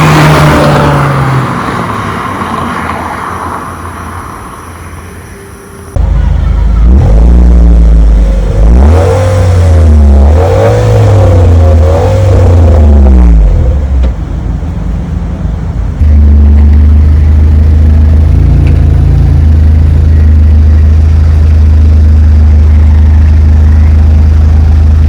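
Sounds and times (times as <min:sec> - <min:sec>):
car exhaust engine drone: 0:00.0 - 0:25.0.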